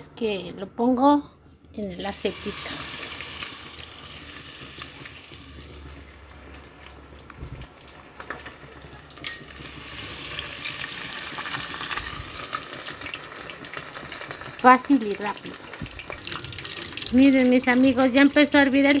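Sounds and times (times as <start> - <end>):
fish frying in hot oil: 2.0 - 19.0.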